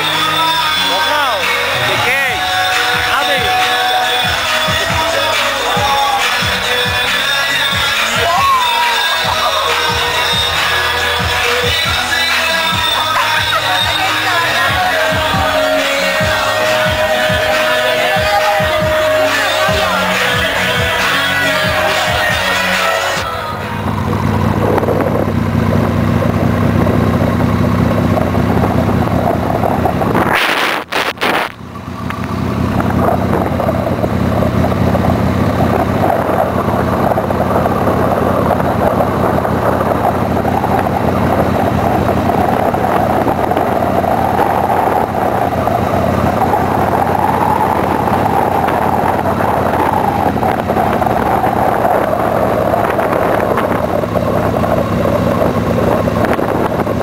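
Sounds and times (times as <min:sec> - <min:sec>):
motor vehicle running: 0:00.0 - 0:57.0.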